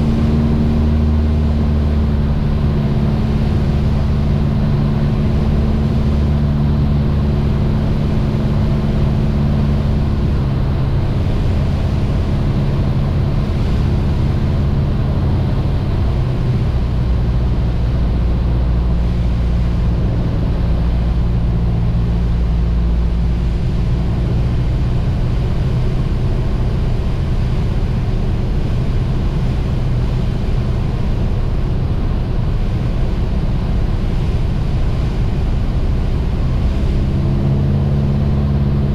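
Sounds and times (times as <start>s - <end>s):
aircraft engine and propeller droning: 0.0s - 38.9s.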